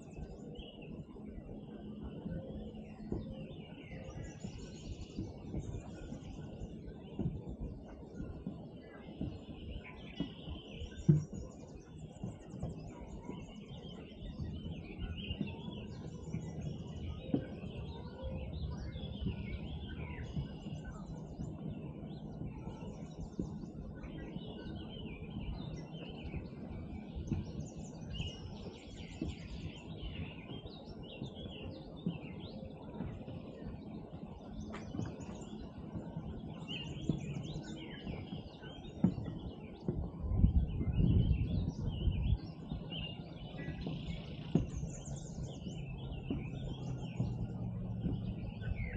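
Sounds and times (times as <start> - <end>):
songbirds chirping and trilling: 0.0 - 48.9
steady low rumble: 0.0 - 48.9.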